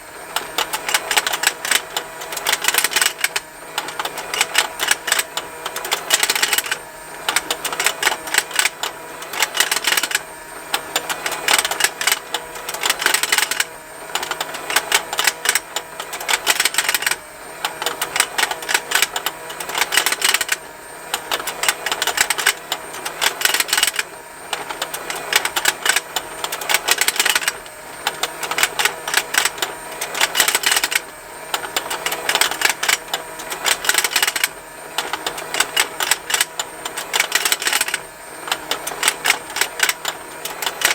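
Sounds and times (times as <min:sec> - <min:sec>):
faint motor hum: 0:00.0 - 0:40.9
toy rapid plastic ticking: 0:00.4 - 0:40.9.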